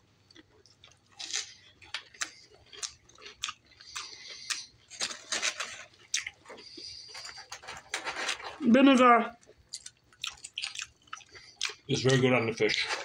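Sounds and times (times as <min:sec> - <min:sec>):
person chewing food: 0:00.0 - 0:08.2, 0:09.4 - 0:13.0.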